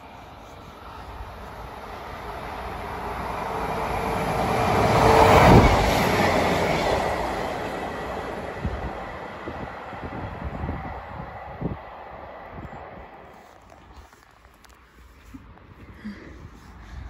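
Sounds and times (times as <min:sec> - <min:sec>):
diesel train passing at speed: 0:00.0 - 0:13.7.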